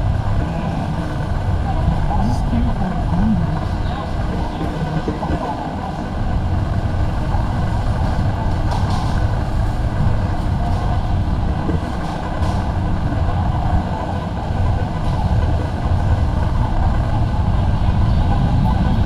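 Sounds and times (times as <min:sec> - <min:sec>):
murmur of shoppers: 0:00.0 - 0:19.0
steady low rumble: 0:00.0 - 0:19.0.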